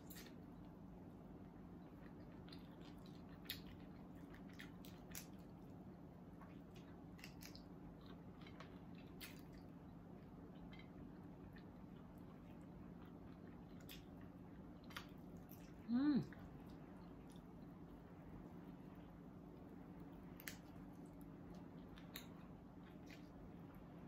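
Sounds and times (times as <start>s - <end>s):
wet chewing and lip-smacking: 0.0s - 23.8s
low steady hum: 0.0s - 24.0s.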